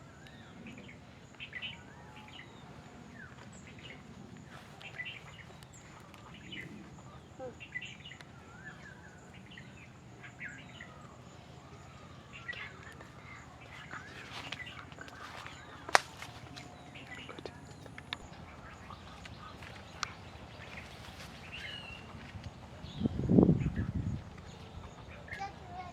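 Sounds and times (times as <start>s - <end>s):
low background hum: 0.0s - 25.9s.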